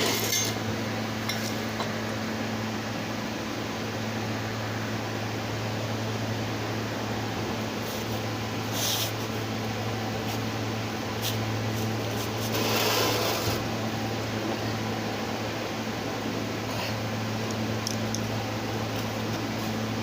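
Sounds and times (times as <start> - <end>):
steady mechanical hum and hiss: 0.0 - 20.0.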